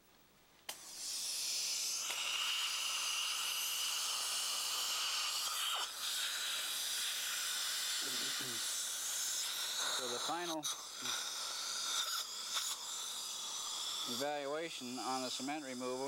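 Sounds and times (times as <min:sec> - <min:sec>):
dental syringe and suction hiss: 0:00.7 - 0:16.0.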